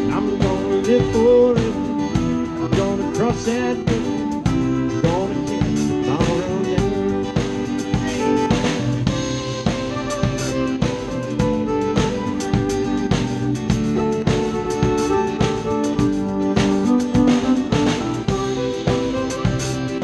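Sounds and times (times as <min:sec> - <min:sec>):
drum kit steady beat: 0:00.0 - 0:20.0
guitar and bass: 0:00.0 - 0:20.0
sliding lead melody: 0:00.0 - 0:20.0.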